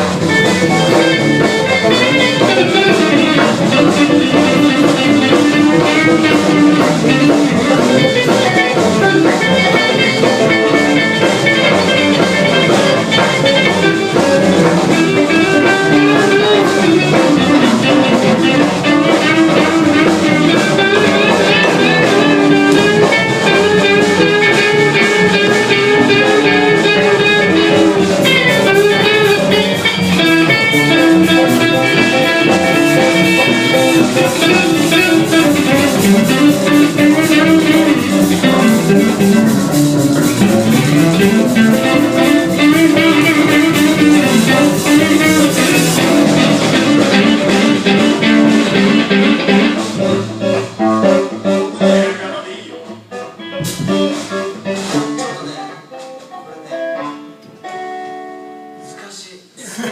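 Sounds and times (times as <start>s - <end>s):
bass: 0.0s - 56.7s
bluesy electric guitar: 0.0s - 59.0s
drum kit: 0.0s - 59.0s.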